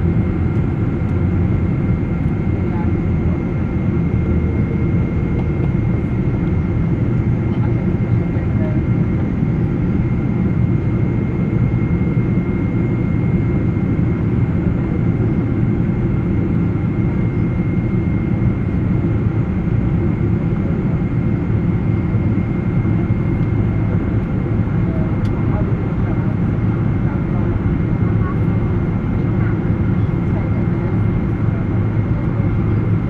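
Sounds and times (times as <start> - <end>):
aircraft roar: 0.0 - 33.0.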